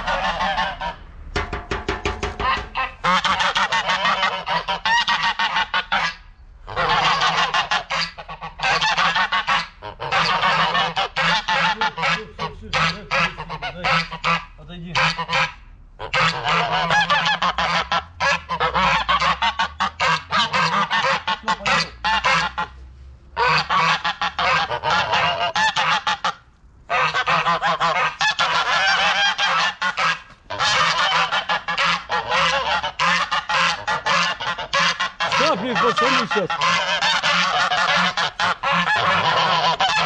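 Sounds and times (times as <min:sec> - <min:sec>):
geese honking: 0:00.0 - 0:40.0.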